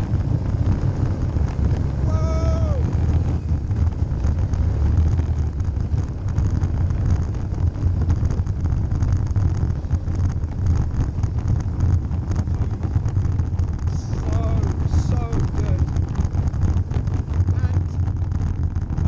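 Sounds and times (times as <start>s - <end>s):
quad bike engine running: 0.0s - 19.0s
wind buffeting microphone: 0.0s - 19.0s.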